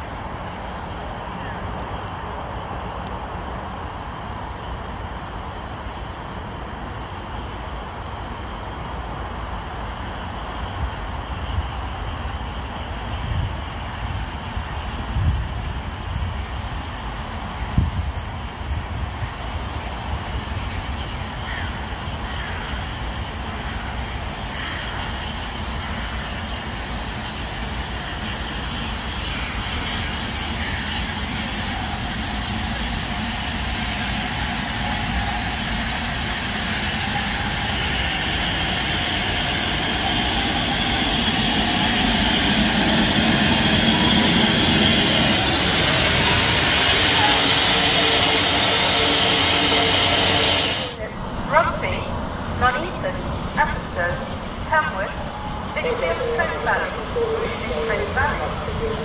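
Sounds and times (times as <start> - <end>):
steam locomotive running past: 0.0 - 59.0.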